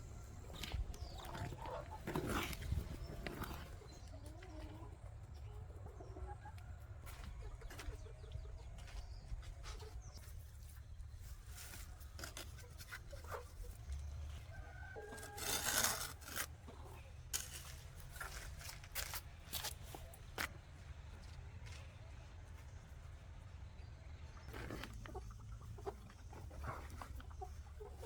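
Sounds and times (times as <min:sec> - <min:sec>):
chickens clucking: 0:00.0 - 0:18.4, 0:19.6 - 0:28.0.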